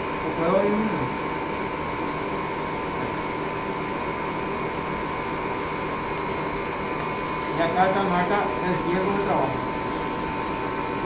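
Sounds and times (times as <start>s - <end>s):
high machine whine: 0.0s - 11.0s
lathe mechanical whir: 0.0s - 11.0s.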